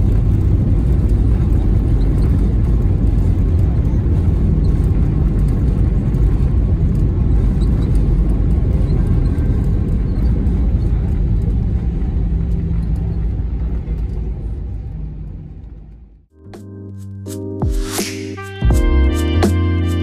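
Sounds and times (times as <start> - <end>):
airliner cabin rumble on ground: 0.0 - 16.3.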